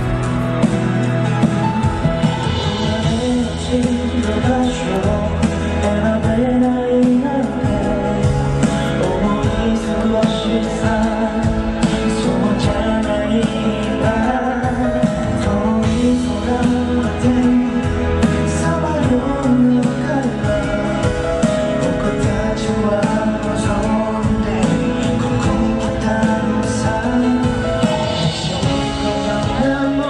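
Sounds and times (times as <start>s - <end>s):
instrumental pop backing: 0.0s - 30.0s
man singing into microphone: 2.2s - 30.0s.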